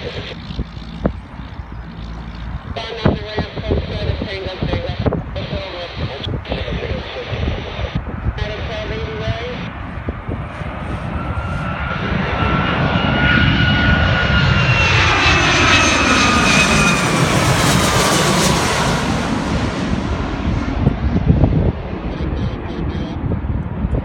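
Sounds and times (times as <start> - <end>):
jet airliner passing overhead: 0.0 - 24.0.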